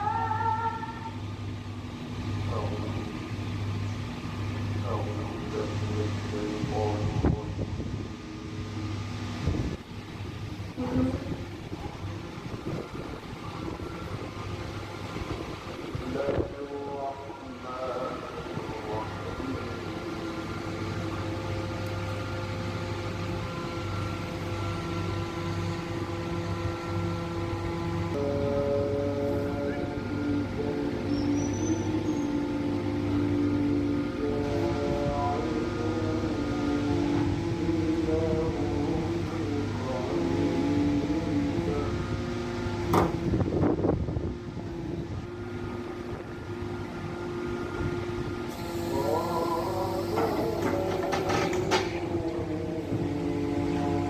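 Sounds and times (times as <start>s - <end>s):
engine drone: 0.0s - 54.0s
hydraulic pump whine: 0.0s - 54.0s
power unit humming: 0.0s - 54.0s.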